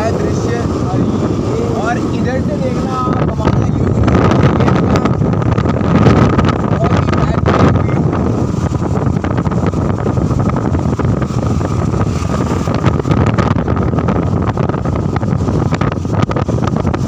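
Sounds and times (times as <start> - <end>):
road noise: 0.0 - 17.0
vehicle engine: 0.0 - 17.0
wind rush on microphone: 0.0 - 17.0.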